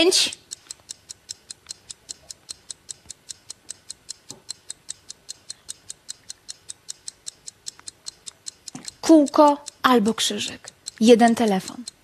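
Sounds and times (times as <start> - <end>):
quick clock ticks: 0.0 - 12.0.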